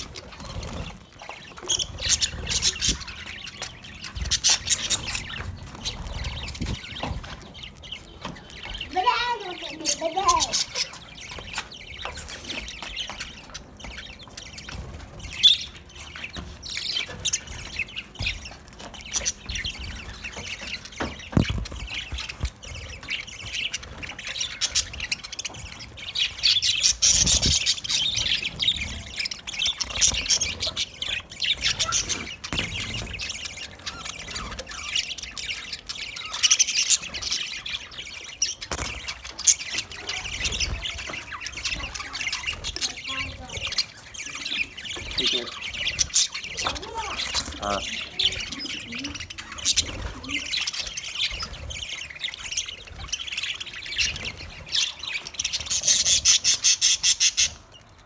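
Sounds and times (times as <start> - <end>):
budgerigars chirping: 0.0 - 58.0.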